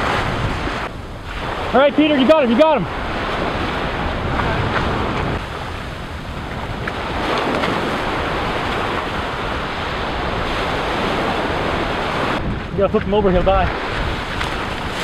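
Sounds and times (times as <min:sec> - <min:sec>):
surf washing at shore: 0:00.0 - 0:15.0
wind on microphone: 0:00.0 - 0:15.0.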